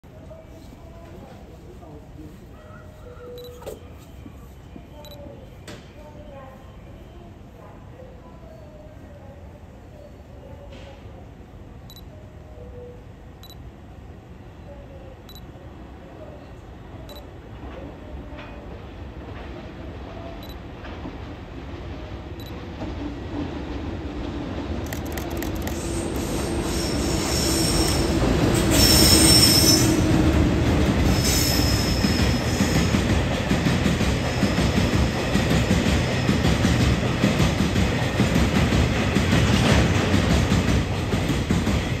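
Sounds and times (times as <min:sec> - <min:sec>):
freight train rumble: 0:07.3 - 0:42.0.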